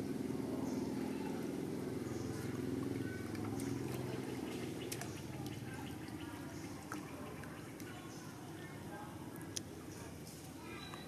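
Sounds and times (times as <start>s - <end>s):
small water splashes: 0.1s - 11.0s.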